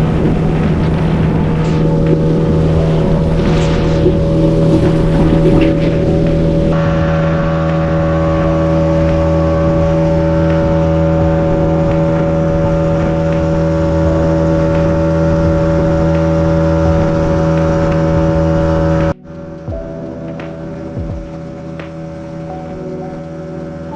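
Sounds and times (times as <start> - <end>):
boat engine humming: 0.0 - 23.9.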